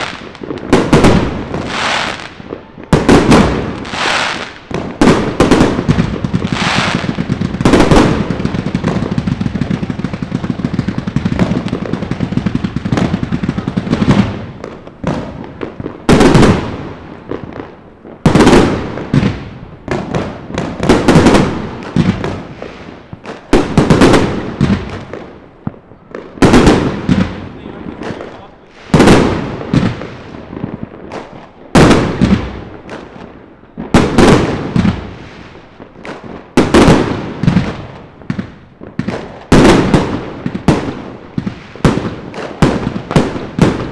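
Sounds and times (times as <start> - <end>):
fireworks crackling: 0.0 - 43.9
loud firework bangs: 0.0 - 43.9.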